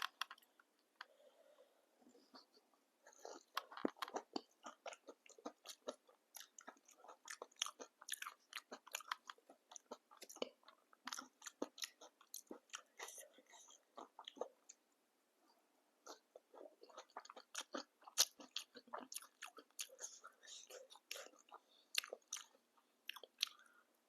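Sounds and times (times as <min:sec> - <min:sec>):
person chewing crunchy food: 0:00.0 - 0:01.2, 0:02.1 - 0:14.7, 0:16.0 - 0:23.8.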